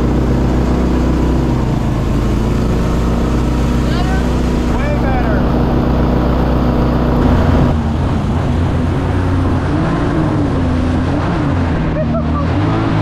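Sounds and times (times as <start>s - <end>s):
small boat motor running: 0.0s - 13.0s
wake water rushing: 0.0s - 13.0s.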